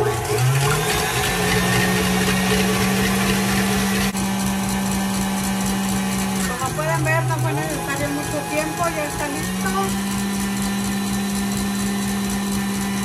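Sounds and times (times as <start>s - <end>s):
electric mixer whisking: 0.0s - 13.0s.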